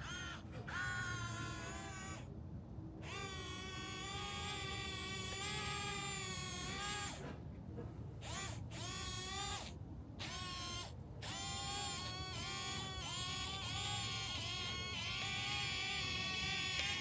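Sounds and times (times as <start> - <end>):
toy motor and gears whining: 0.0 - 2.3, 3.0 - 7.4, 8.2 - 17.0.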